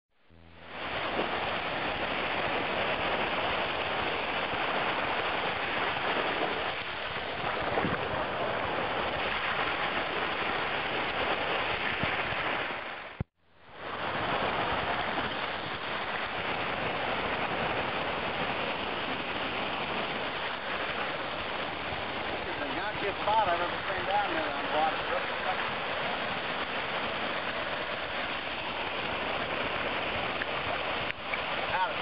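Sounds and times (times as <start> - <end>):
small waves washing ashore: 0.3 - 32.0.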